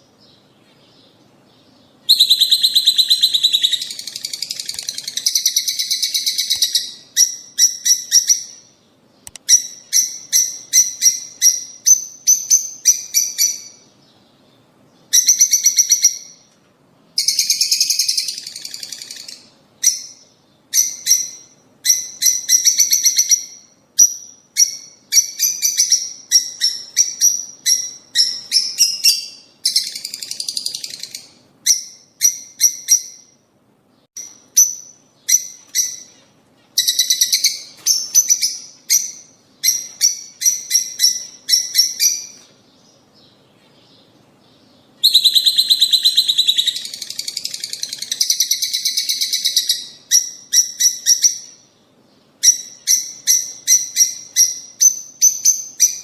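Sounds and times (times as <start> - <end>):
lovebirds chirping: 0.0 - 16.6, 17.2 - 56.0.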